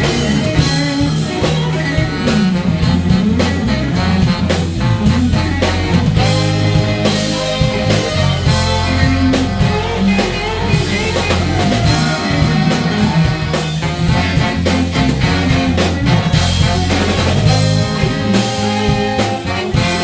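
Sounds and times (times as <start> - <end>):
driving drum kit: 0.0 - 20.0
punk band playing live: 0.0 - 20.0.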